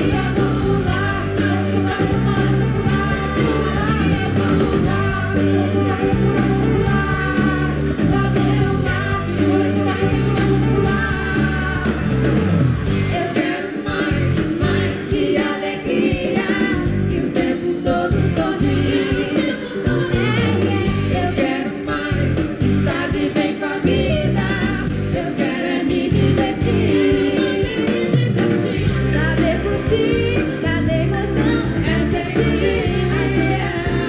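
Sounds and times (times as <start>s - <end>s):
steady drum beat: 0.0s - 34.0s.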